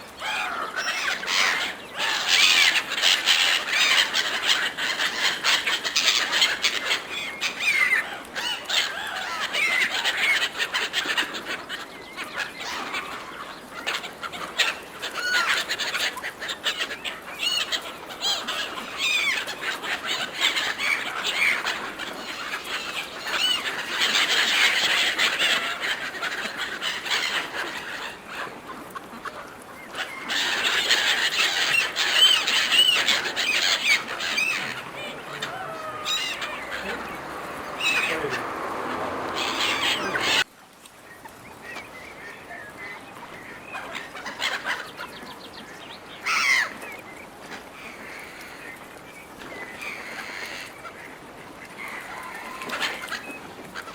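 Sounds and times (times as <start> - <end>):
gulls squealing calls: 0.0 - 40.5, 41.8 - 45.4, 46.2 - 46.8, 49.4 - 53.9.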